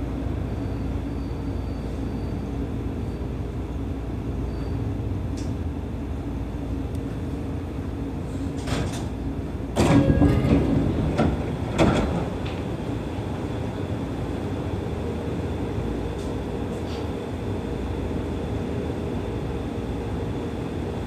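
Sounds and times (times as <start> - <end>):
electric train running rumble: 0.0 - 21.0.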